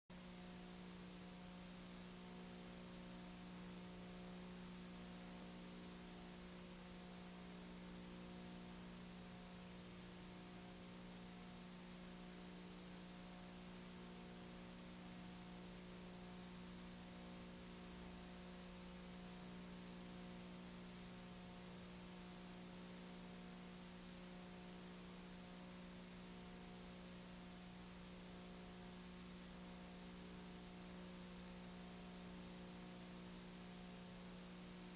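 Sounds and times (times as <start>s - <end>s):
low electrical hum: 0.2s - 34.9s.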